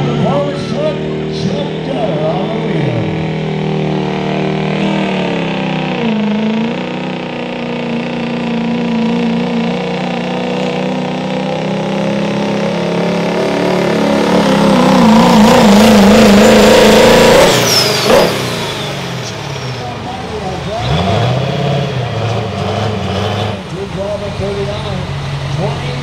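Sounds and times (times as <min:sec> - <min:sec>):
diesel engine revving hard: 0:00.0 - 0:26.0.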